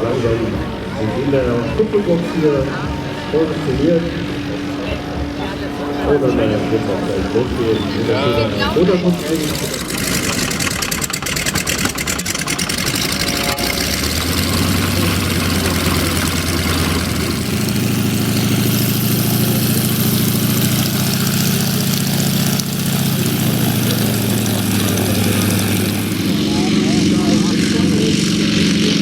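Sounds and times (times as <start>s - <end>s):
radial aircraft engine starting: 0.0s - 29.0s.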